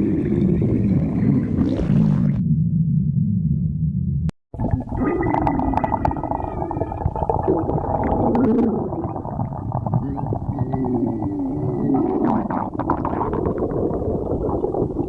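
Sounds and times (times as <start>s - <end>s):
stomach growling: 0.0s - 2.4s, 4.6s - 15.0s.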